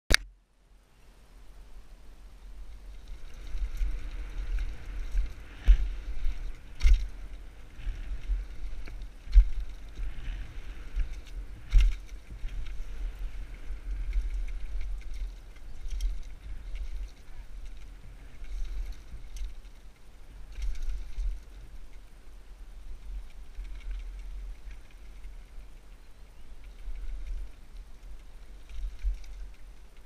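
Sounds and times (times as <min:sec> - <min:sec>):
wind noise on microphone: 0:01.4 - 0:30.0
bike rolling on dirt trail: 0:02.1 - 0:30.0.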